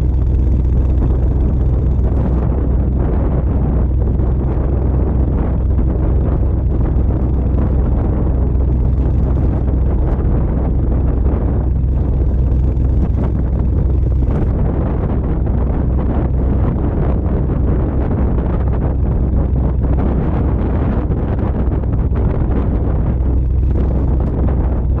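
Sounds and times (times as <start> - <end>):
car exhaust deep drone: 0.0 - 25.0.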